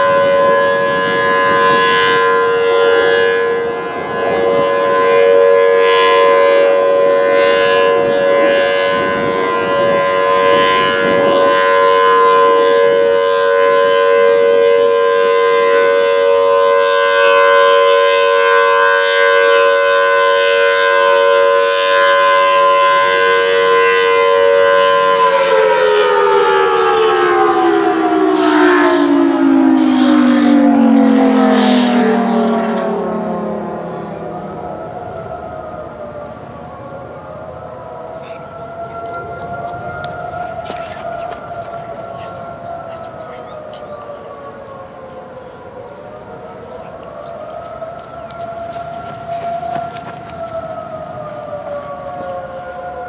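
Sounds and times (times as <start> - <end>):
rotating siren alert tone: 0.0 - 53.0.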